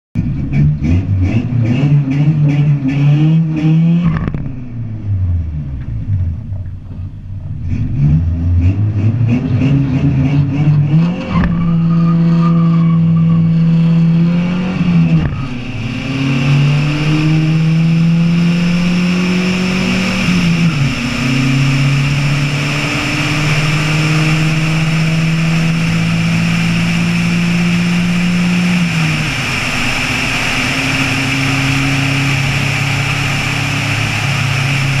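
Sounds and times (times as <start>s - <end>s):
pickup engine at full throttle: 0.2s - 35.0s.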